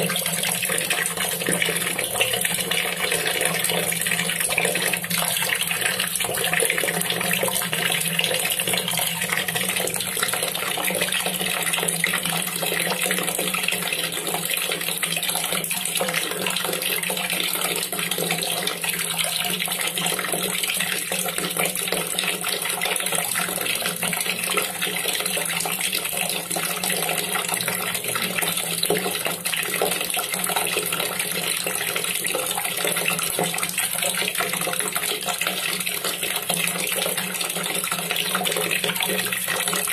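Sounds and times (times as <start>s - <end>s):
water pouring into a basin: 0.0s - 39.9s.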